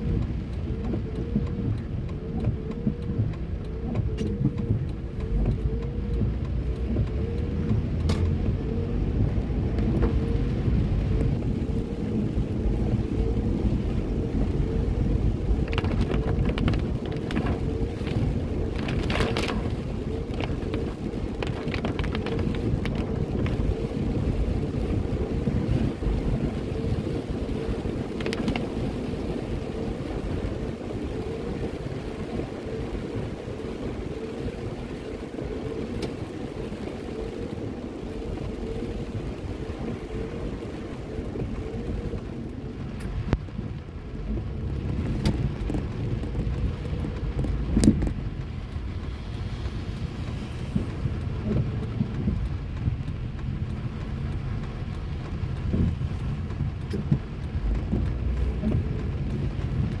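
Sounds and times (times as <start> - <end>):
car engine and tyre rumble: 0.0 - 60.0.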